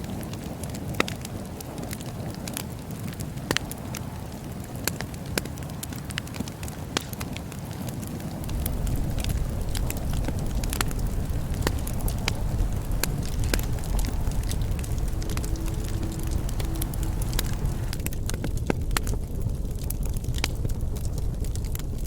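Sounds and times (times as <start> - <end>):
bonfire crackling: 0.0 - 22.0
low fire rumble: 0.0 - 22.0
sharp fire pops: 0.1 - 22.0.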